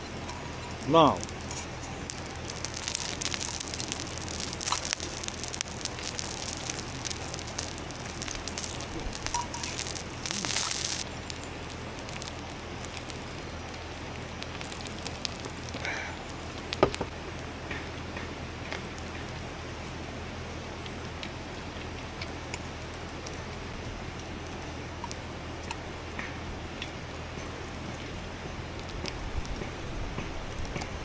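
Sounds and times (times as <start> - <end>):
campfire crackling and hissing: 0.0 - 31.0.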